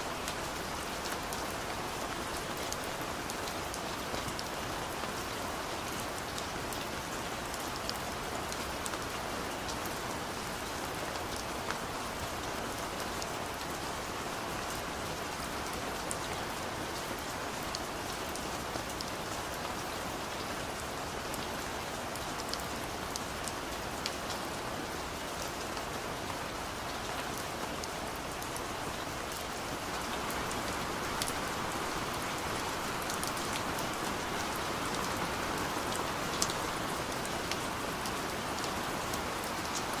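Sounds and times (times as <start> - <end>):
rain on a car roof: 0.0 - 40.0.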